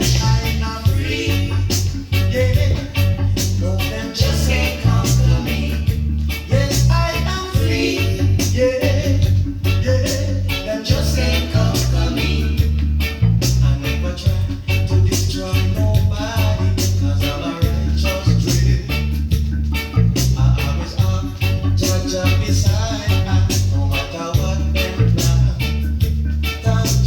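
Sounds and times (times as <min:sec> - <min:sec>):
reggae music with singing: 0:00.0 - 0:27.0.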